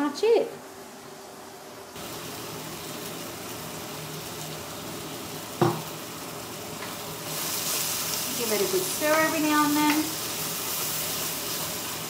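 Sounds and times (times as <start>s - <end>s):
chicken sizzling in a frying pan: 1.7s - 12.0s.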